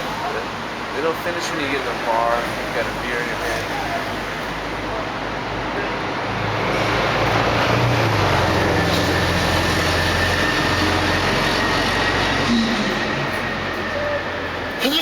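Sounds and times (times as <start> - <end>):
road noise rushing: 0.0 - 15.0.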